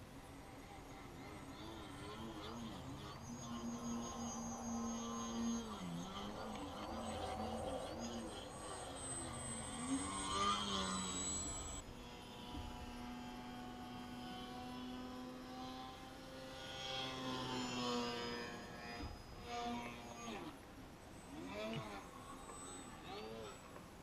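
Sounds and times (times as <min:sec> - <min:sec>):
electric motor and propeller whining: 0:00.0 - 0:24.0.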